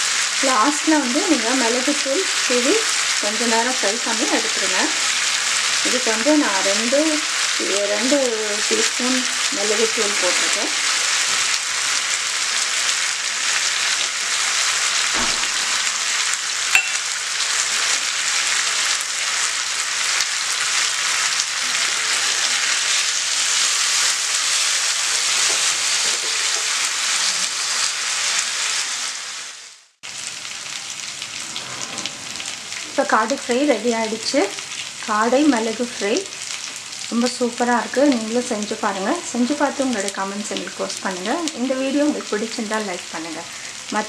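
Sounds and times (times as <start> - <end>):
meat sizzling in hot oil: 0.0 - 44.0.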